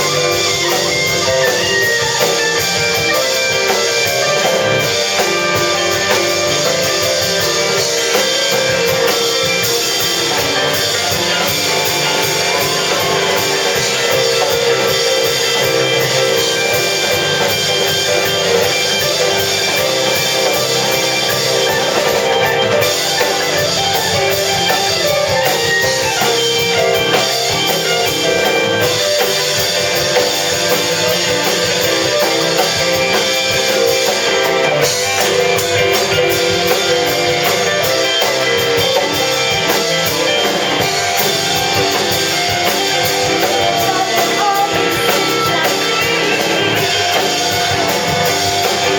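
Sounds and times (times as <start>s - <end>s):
rock band music: 0.0s - 48.9s.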